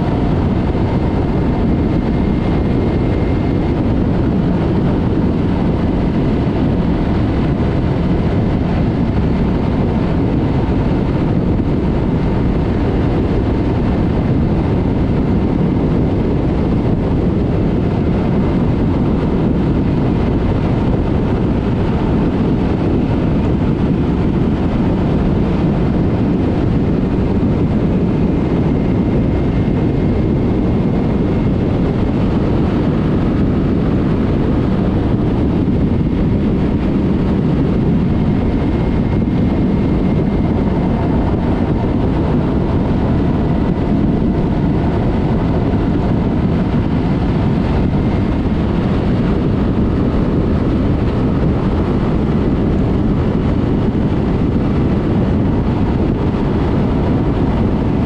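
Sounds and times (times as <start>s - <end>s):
motorcycle engine cruising: 0.0s - 58.0s
rushing wind: 0.0s - 58.0s.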